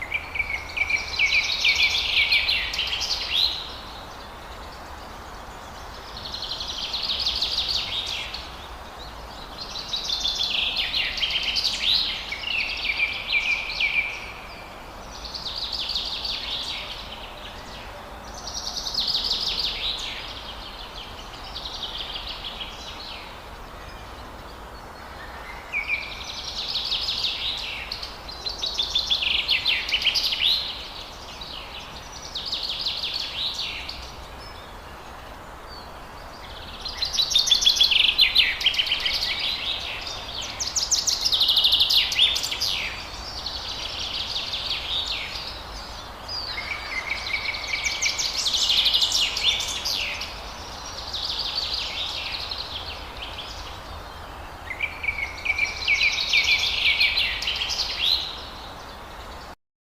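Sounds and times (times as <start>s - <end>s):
steady background hiss: 0.0s - 59.6s.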